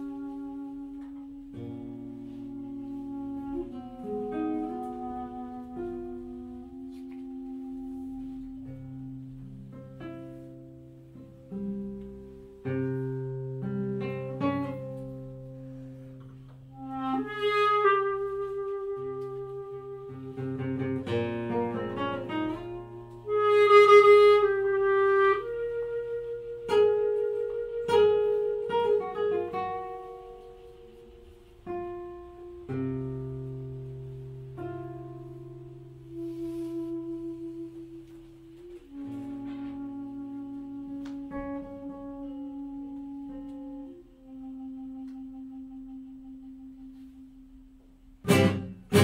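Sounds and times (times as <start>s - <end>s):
clarinet long held notes: 0.0s - 49.0s
classical guitar plucking: 0.0s - 49.0s.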